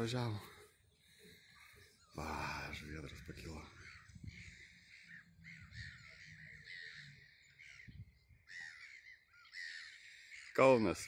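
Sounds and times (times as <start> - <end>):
faint gulls calling: 0.0 - 11.0.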